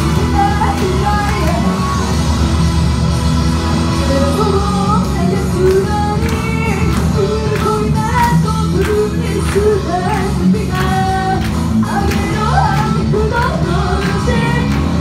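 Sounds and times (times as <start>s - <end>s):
woman singing into microphone: 0.0s - 2.2s, 4.0s - 15.0s
loud music with drum beat: 0.0s - 15.0s.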